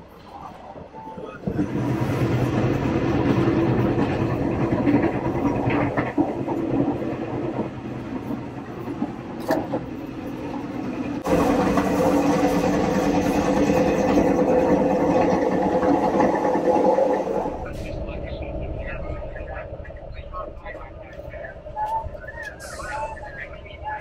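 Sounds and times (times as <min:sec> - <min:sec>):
train rumbling from inside carriage: 0:00.0 - 0:24.0.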